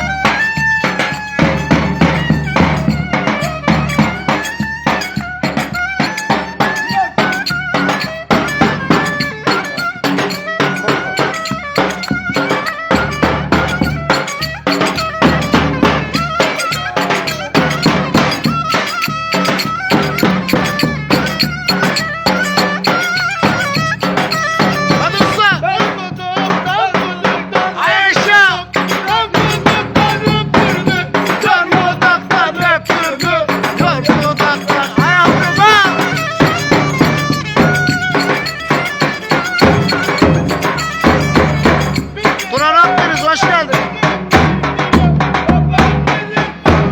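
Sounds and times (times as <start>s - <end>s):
ornamented folk melody: 0.0s - 46.9s
quick steady drum beat: 0.0s - 46.9s.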